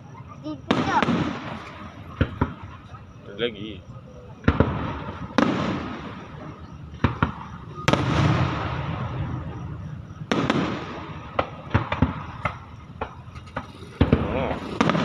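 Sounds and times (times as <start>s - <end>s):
fireworks bangs: 0.0s - 15.0s
fireworks rumble and crackle: 0.0s - 15.0s.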